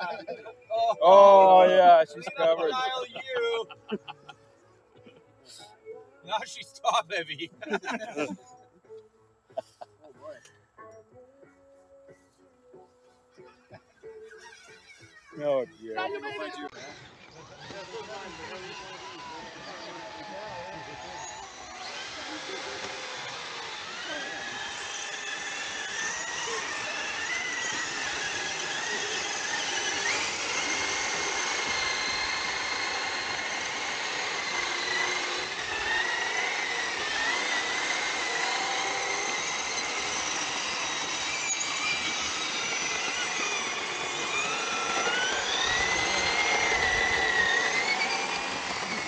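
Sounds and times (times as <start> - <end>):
electric motors whining: 0.0 - 5.2, 13.5 - 49.0.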